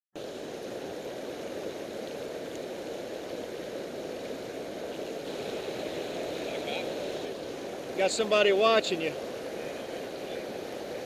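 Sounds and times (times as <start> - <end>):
river water rushing over dam: 0.2 - 11.0.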